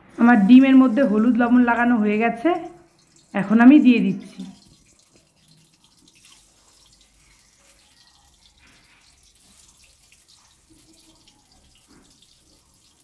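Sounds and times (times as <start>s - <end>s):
oil sizzling and spattering: 0.0s - 13.0s.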